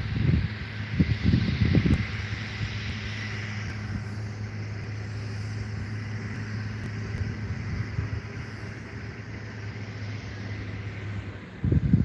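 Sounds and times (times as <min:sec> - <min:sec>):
engine running hum: 0:00.0 - 0:12.0
outdoor noise: 0:00.0 - 0:12.0.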